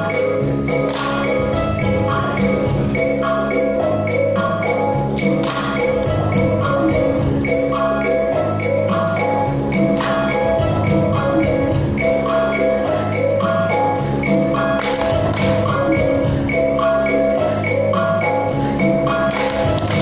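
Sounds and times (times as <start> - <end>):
bell-like notes over low notes: 0.0 - 20.0.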